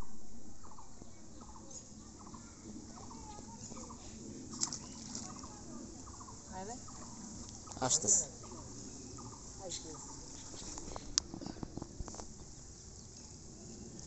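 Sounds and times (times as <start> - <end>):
birds calling: 0.6 - 13.5.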